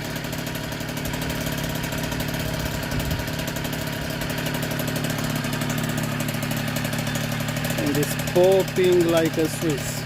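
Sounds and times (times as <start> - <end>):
two-stroke engine idling: 0.0 - 10.0.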